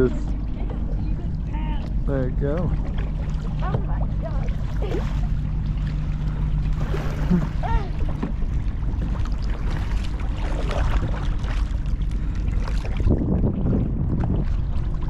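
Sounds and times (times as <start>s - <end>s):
rush of wind and water: 0.0s - 15.0s
paddle splashing in water: 0.5s - 15.0s.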